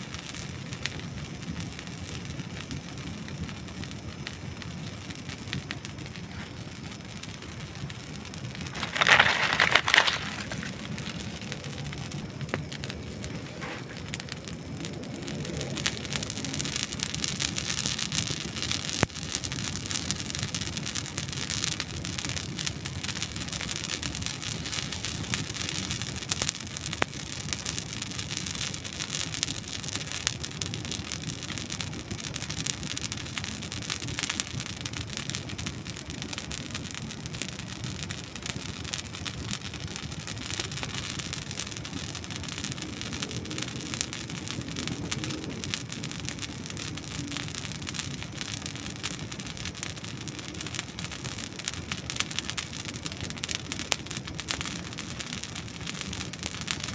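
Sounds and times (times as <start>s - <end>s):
campfire crackling: 0.0s - 56.9s
fire hiss: 0.0s - 56.9s
fire pops: 0.0s - 56.9s.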